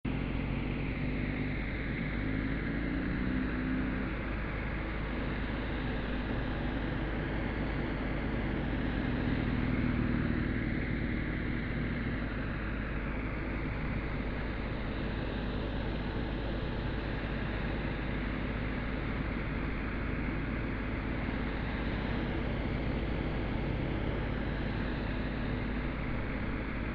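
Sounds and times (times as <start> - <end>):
motorcycle engine at low revs: 0.0 - 26.9.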